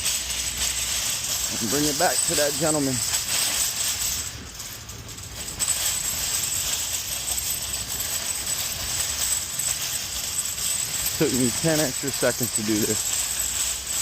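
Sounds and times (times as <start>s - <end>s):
jingling metal rattle: 0.0s - 14.0s.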